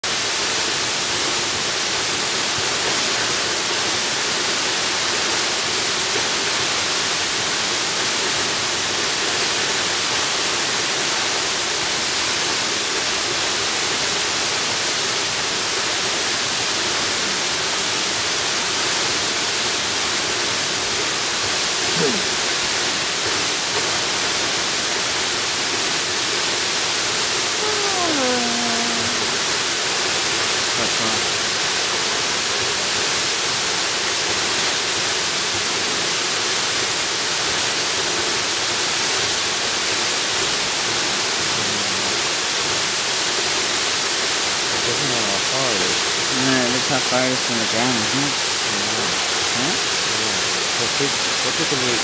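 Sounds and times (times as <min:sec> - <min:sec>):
waterfall rushing: 0:00.1 - 0:52.0.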